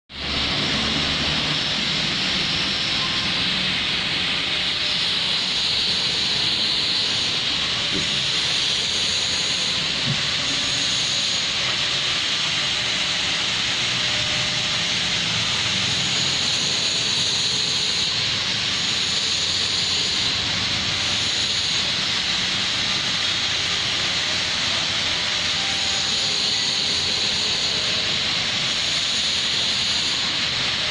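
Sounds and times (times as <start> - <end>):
steady hiss: 0.2 - 30.9.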